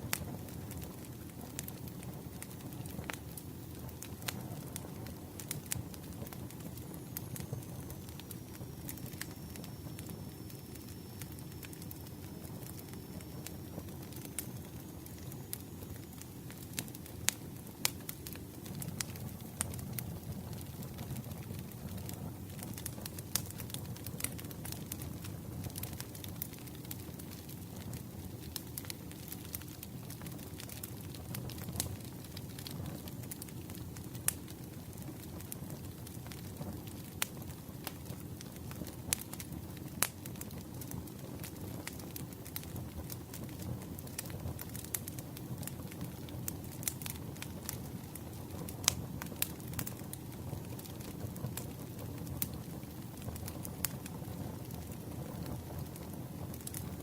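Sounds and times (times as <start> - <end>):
burning wood crackling and popping: 0.0 - 57.0
campfire flames rumbling: 0.0 - 57.0.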